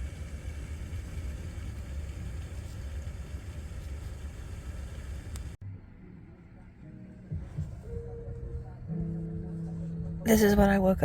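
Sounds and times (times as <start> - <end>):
vehicle engine idling: 0.0 - 10.8.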